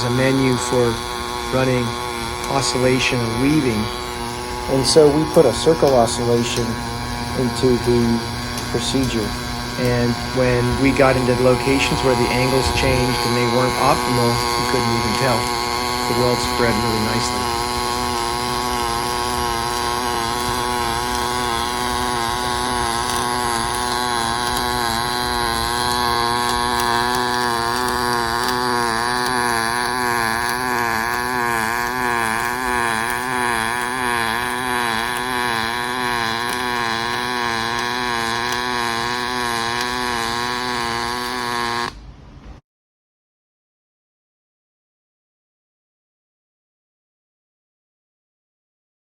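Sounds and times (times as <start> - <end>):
welding arc buzzing: 0.0 - 42.6.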